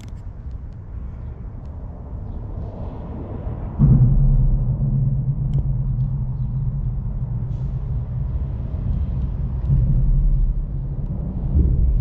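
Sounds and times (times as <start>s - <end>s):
low rumble of bridge traffic: 0.0s - 12.0s.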